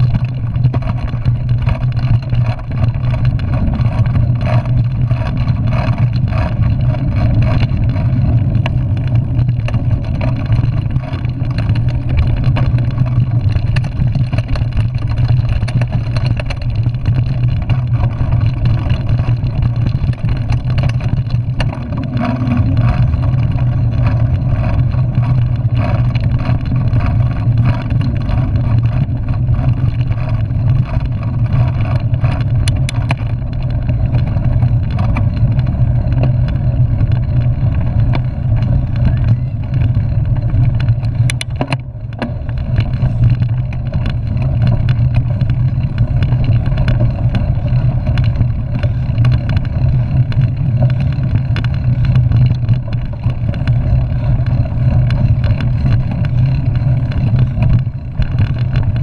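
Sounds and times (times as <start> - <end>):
bike knocks and rattles: 0.0 - 59.0
wind and tyre noise: 0.0 - 59.0.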